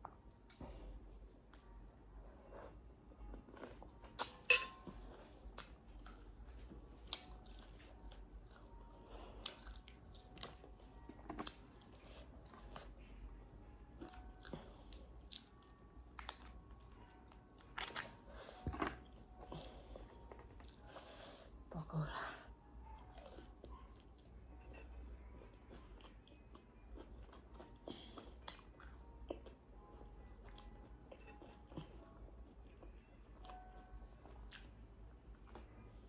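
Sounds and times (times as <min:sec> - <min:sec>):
chewing crisp fried food: 0:01.3 - 0:13.3, 0:14.0 - 0:21.1, 0:22.9 - 0:35.9.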